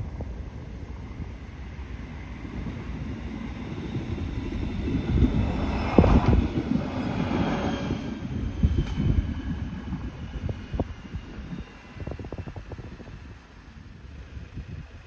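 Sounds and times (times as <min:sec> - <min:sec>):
diesel railcar engine and rolling: 0:00.0 - 0:15.0.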